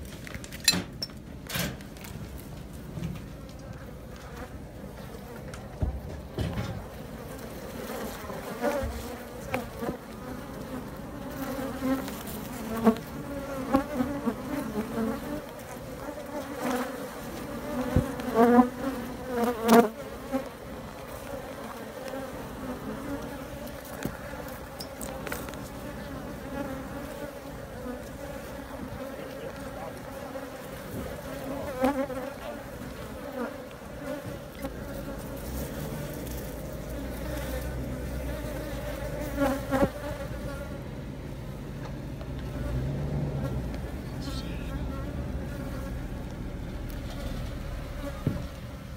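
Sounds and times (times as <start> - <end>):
bees buzzing: 3.8 - 48.9.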